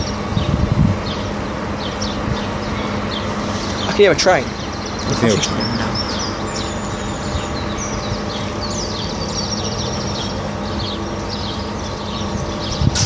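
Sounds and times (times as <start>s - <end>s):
songbird chirping: 0.0s - 13.0s
steady rushing background noise: 0.0s - 13.0s.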